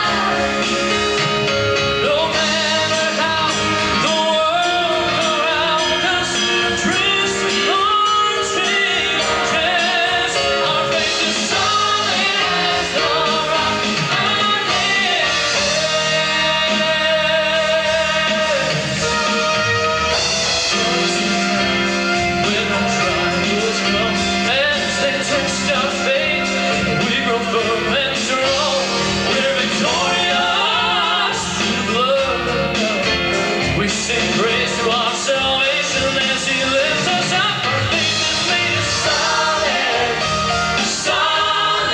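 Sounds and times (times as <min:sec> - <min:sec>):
instrumental backing: 0:00.0 - 0:41.9
song with sung vocals: 0:00.0 - 0:41.9.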